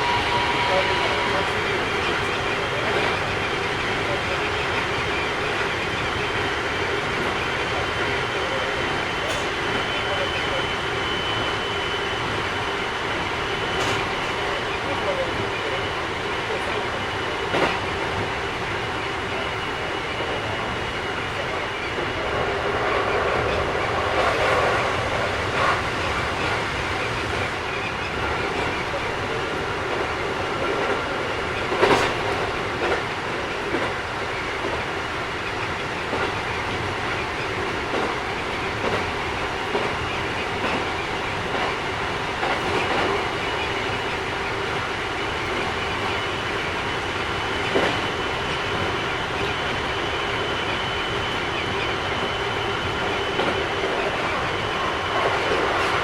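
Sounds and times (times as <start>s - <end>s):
rail-joint clacks: 0.0s - 56.0s
train wheels rumbling on rail: 0.0s - 56.0s.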